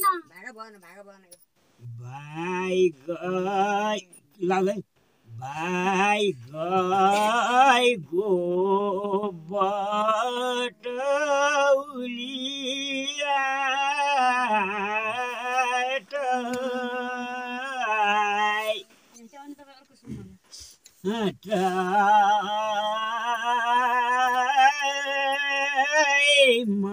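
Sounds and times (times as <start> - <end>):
elderly man singing unaccompanied: 1.8 - 19.1, 20.4 - 26.9.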